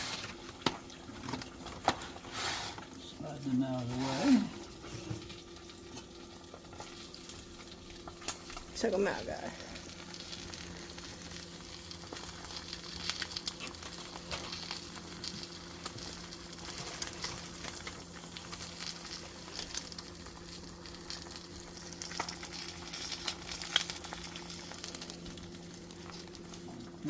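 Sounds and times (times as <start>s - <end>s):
eggs sizzling in a pan: 0.0s - 27.0s
low electrical hum: 0.0s - 27.0s.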